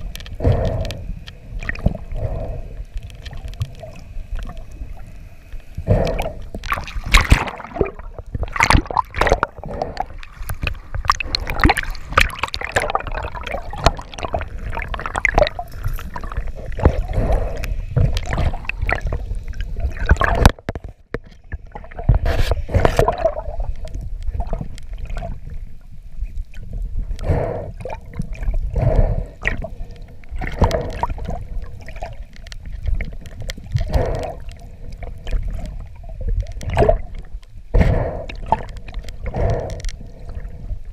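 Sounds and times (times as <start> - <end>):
underwater gurgling and rushing: 0.0 - 40.9.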